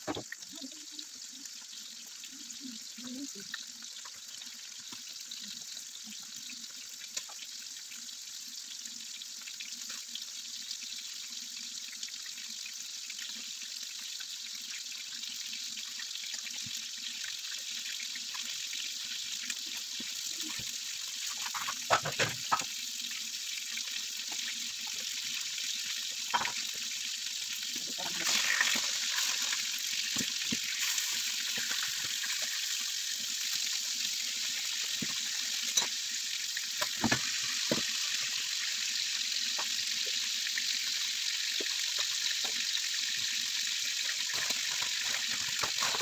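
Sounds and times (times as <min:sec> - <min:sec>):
chicken frying with crackles: 0:00.0 - 0:46.0.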